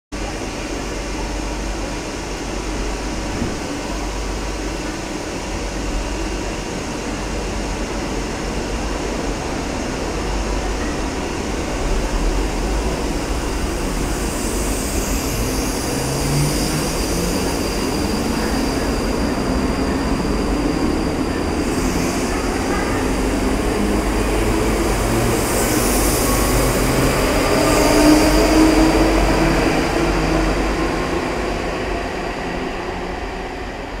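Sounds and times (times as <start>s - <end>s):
wheels rumbling on rail: 0.2s - 34.0s.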